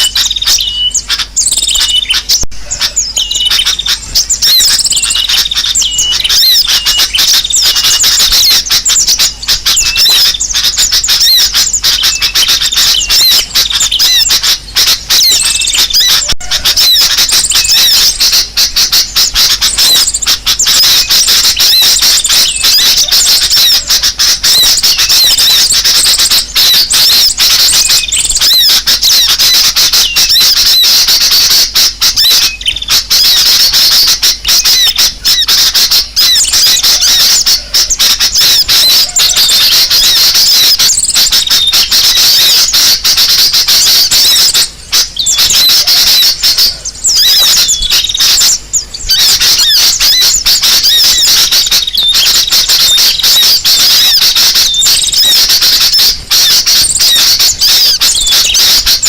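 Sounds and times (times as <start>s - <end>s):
small birds chattering and squeaking: 0.0s - 59.0s.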